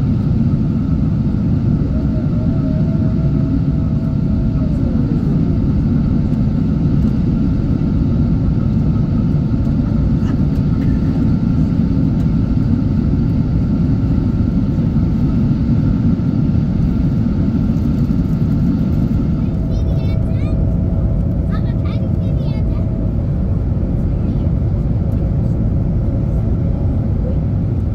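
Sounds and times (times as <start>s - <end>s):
low rumble of engines and airflow: 0.0s - 27.9s.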